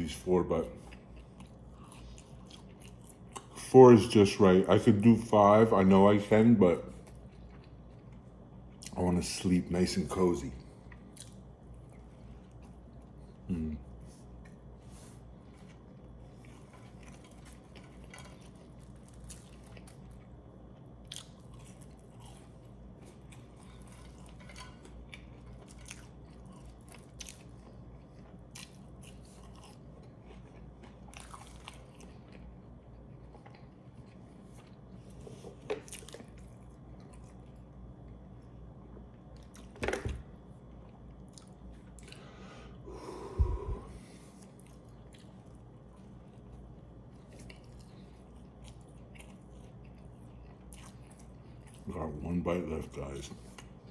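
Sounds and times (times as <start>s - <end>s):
low steady hum: 0.0s - 53.9s
close chewing sounds: 0.1s - 3.7s, 6.2s - 9.4s, 10.4s - 39.7s, 40.6s - 42.3s, 44.3s - 53.9s.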